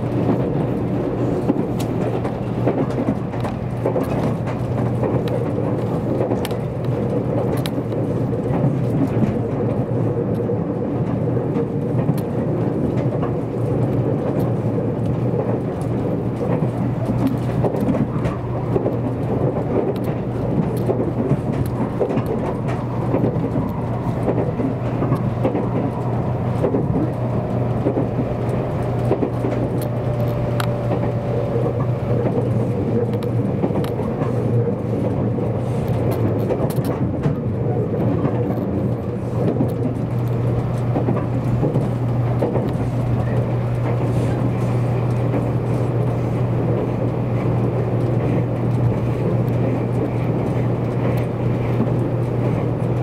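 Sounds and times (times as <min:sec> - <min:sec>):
faint train whine: 0:00.0 - 0:53.0
train wheels rumbling on rail: 0:00.0 - 0:53.0.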